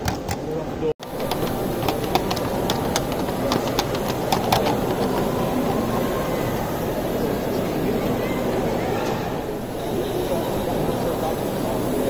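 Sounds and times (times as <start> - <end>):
crowd hubbub: 0.0 - 12.0
model train wheels clicking: 1.0 - 12.0.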